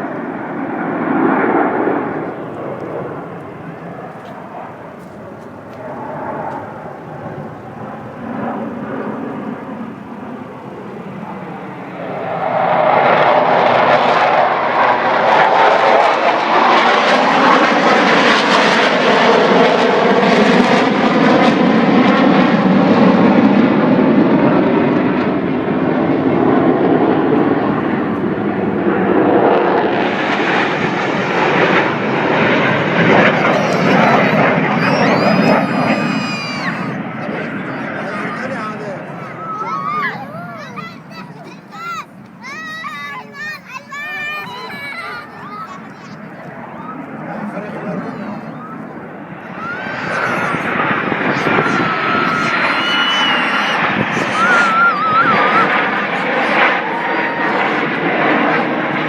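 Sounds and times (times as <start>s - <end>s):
aircraft flying past: 0.0s - 59.0s.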